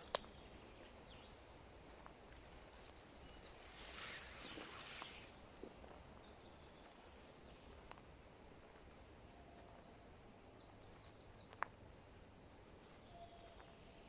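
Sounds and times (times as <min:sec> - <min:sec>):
distant small birds calling: 0:00.0 - 0:14.0.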